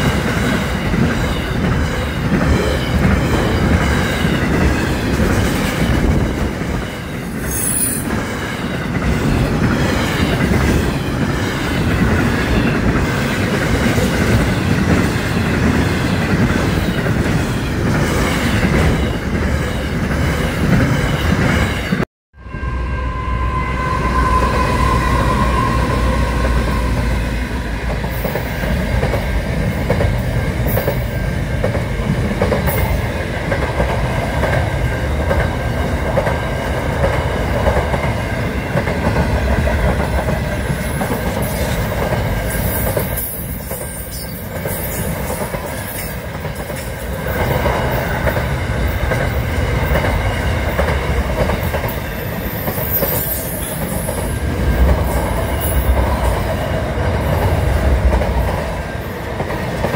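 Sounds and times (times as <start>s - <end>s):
freight train wagons rolling past: 0.0s - 59.9s.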